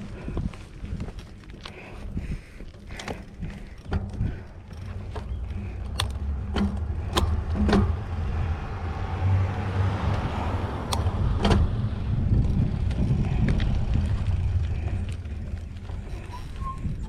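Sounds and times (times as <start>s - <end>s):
bike clicks and rattles: 0.0s - 17.0s
wind and tyre rumble: 0.0s - 17.0s.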